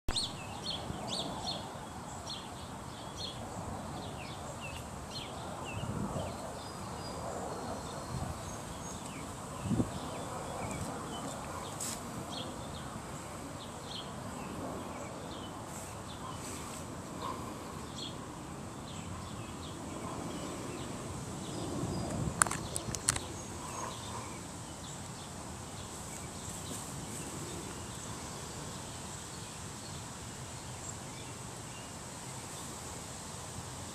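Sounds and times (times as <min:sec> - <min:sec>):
small birds chirping: 0:00.1 - 0:32.8.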